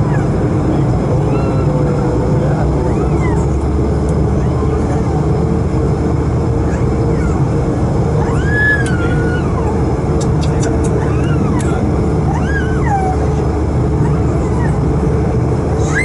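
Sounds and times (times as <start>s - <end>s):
aircraft rumble: 0.0s - 16.0s.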